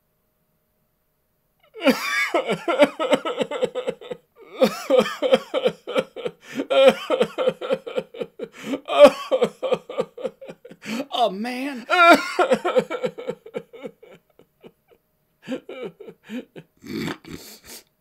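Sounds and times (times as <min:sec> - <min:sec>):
man sobbing: 0:01.7 - 0:17.9.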